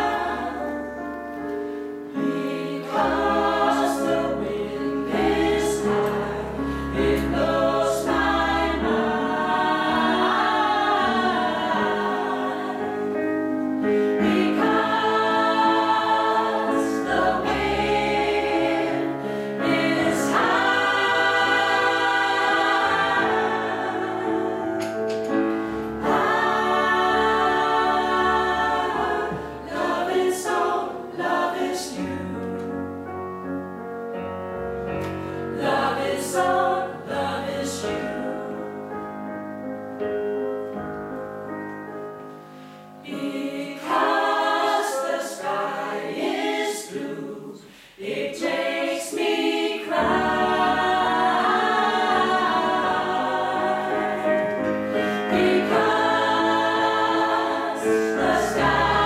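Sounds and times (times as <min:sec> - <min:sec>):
vocal ensemble singing in harmony: 0:00.0 - 0:33.1, 0:34.8 - 0:39.2, 0:42.3 - 0:59.0.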